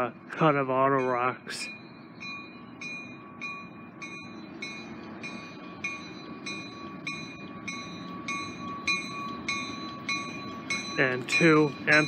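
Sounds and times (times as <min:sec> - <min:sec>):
diesel freight train rumbling: 0:00.0 - 0:12.0
warning bell ringing: 0:00.0 - 0:12.0.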